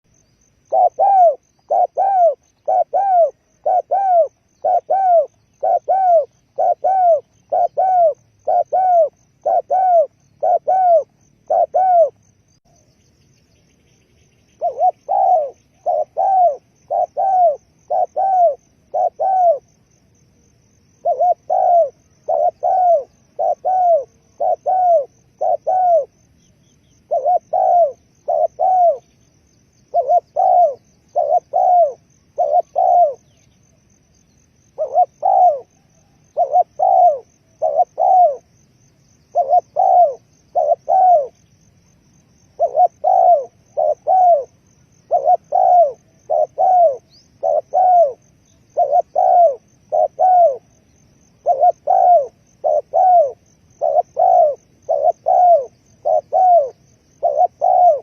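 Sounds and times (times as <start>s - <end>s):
dove cooing: 0.0s - 12.8s, 14.6s - 20.0s, 20.9s - 41.4s, 42.3s - 58.0s
high-pitched insect trill: 0.0s - 58.0s.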